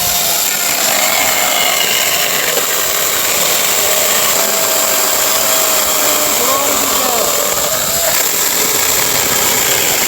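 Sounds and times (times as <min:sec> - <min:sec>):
chainsaw cutting wood: 0:00.0 - 0:10.0.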